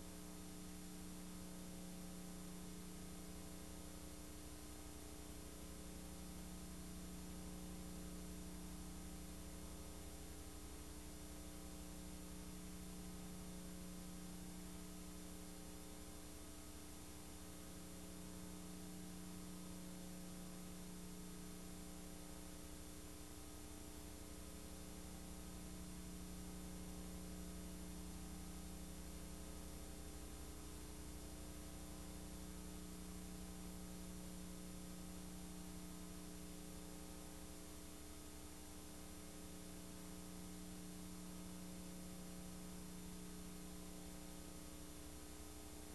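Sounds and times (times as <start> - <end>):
faint electrical hum: 0.0 - 45.9.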